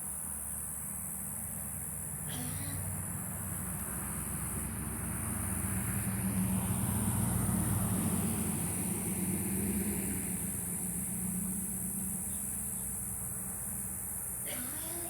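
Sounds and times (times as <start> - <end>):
vehicle engine humming: 1.0 - 15.0.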